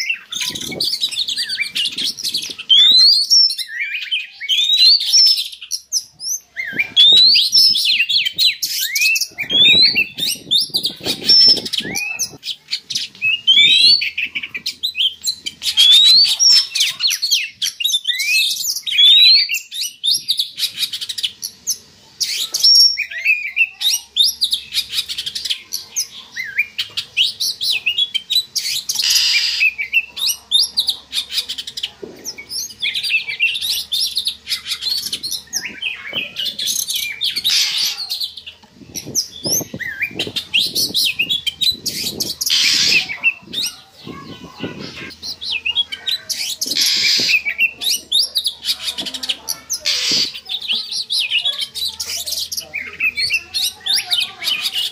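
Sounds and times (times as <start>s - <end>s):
bird singing chirps and whistles: 0.0s - 30.9s, 32.2s - 49.1s.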